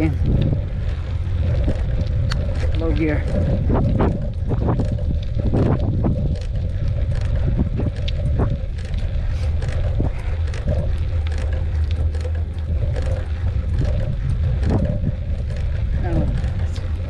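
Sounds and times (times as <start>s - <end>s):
bike clicks and rattles: 0.0s - 17.0s
wind buffeting microphone: 0.0s - 17.0s.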